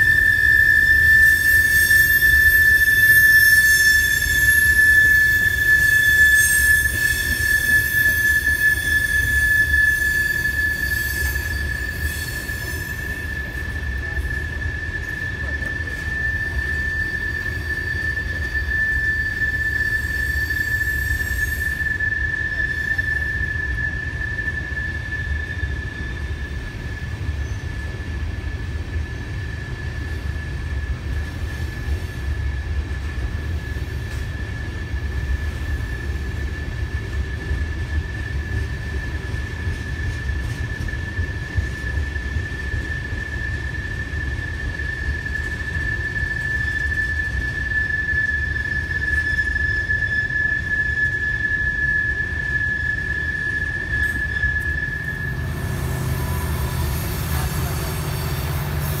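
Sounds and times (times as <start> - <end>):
low rumble of train cars: 0.0 - 59.0
train wheels squealing on rail: 0.0 - 59.0.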